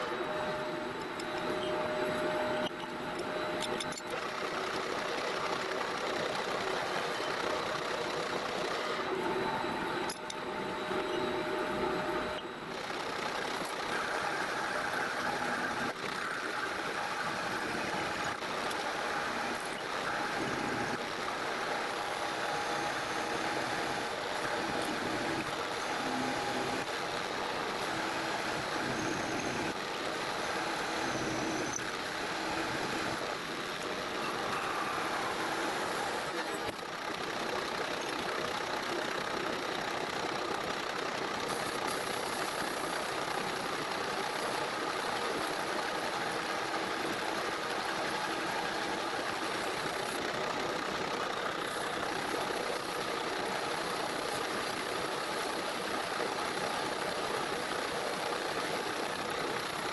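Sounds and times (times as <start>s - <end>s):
metal lathe cutting steel: 0.0s - 59.9s.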